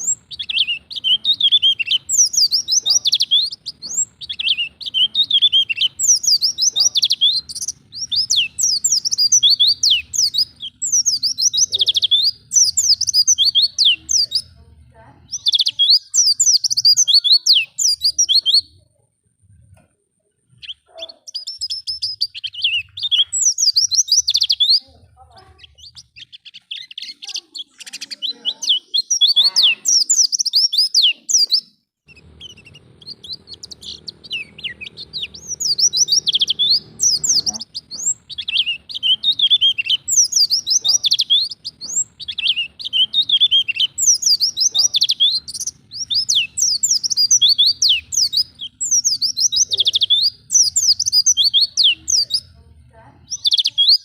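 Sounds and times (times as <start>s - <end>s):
bird twittering song: 0.0s - 18.8s, 19.5s - 54.0s.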